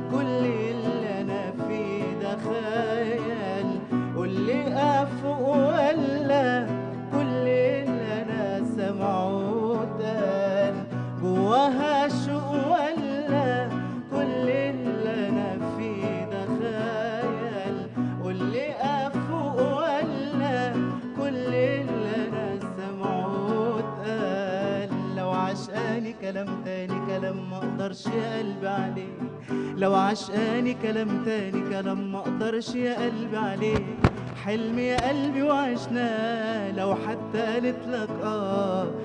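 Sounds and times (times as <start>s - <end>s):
classical guitar plucked and strummed: 0.0s - 39.0s
man singing wordless melody: 0.0s - 39.0s.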